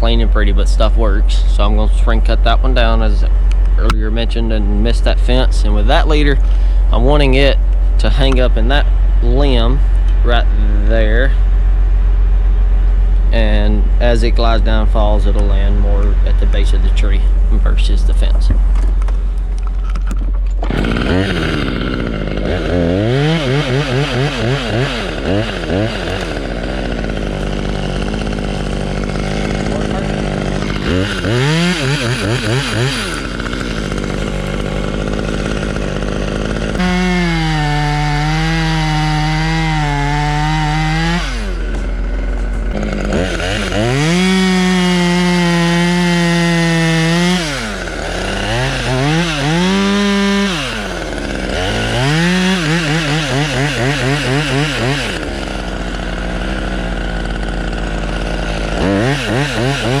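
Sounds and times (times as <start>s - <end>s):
chainsaw revving and cutting wood: 0.0s - 11.6s, 13.1s - 19.0s, 19.6s - 60.0s.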